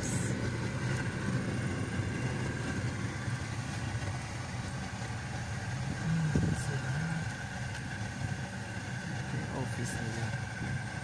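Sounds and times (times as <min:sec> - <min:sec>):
car engine and tyre hum: 0:00.0 - 0:11.0.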